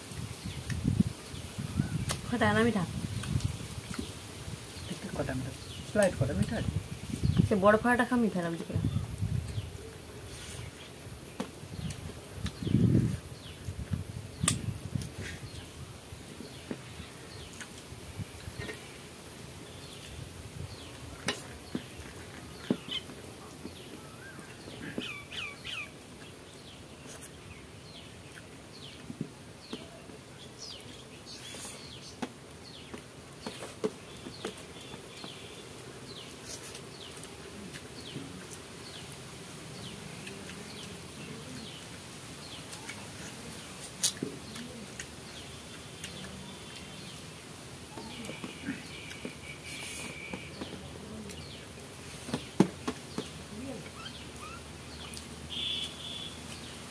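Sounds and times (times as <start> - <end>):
birds chirping: 0.3 - 56.9.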